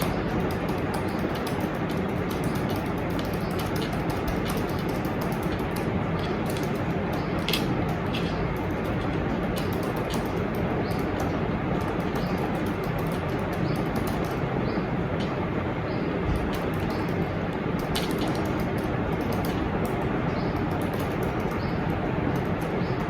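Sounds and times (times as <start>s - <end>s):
fast typing on keyboard: 0.0s - 14.7s, 16.2s - 23.0s
steady background noise: 0.0s - 23.0s.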